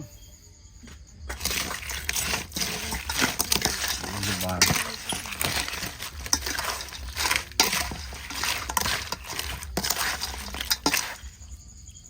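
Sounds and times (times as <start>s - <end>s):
dishes and utensils clattering: 1.3s - 11.3s.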